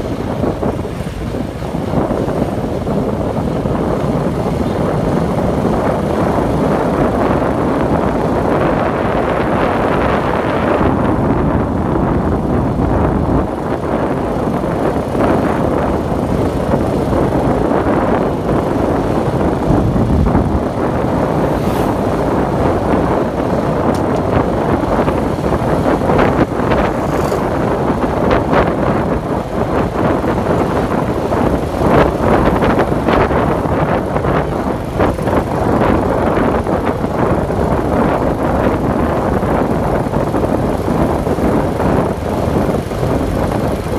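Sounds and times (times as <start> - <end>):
vehicle rumble: 0.0 - 43.9
wind buffeting microphone: 0.0 - 43.9.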